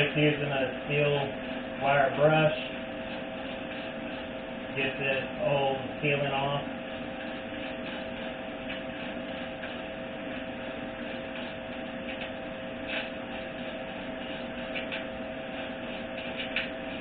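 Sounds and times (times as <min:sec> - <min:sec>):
constant hum: 0:00.0 - 0:17.0
wire brush scrubbing threads: 0:01.8 - 0:17.0.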